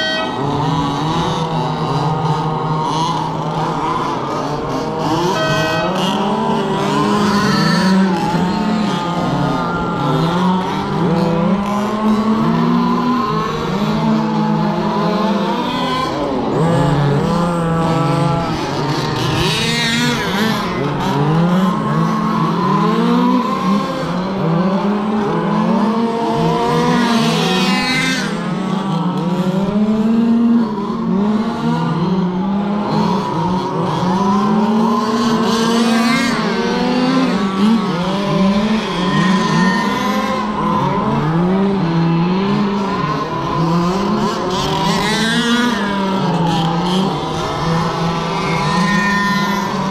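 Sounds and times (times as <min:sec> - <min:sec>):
rc car motors whining: 0:00.0 - 0:49.9.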